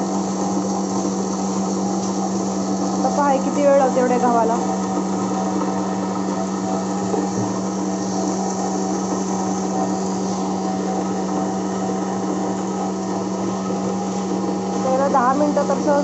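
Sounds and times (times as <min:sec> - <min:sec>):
flour mill motor humming: 0:00.0 - 0:16.0.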